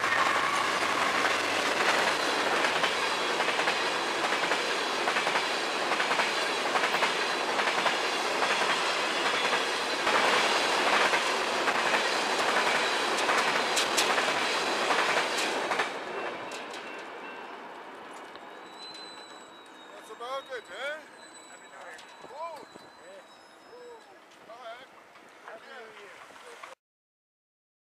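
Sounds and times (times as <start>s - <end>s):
freight train cars rolling past: 0.0s - 26.8s
wheels clicking over rail joints: 0.0s - 26.8s.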